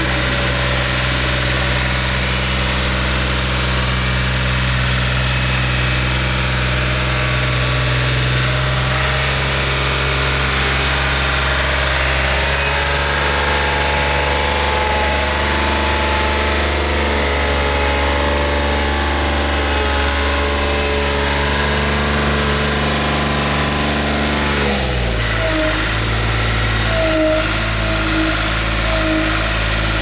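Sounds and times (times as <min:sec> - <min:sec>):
dump truck engine running: 0:00.0 - 0:30.0.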